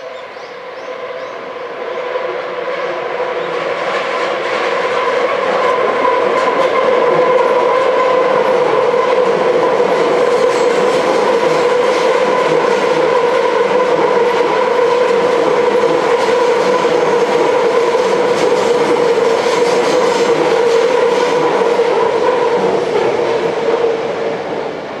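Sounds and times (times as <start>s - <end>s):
train wheels clicking over rail joints: 3.6s - 23.8s.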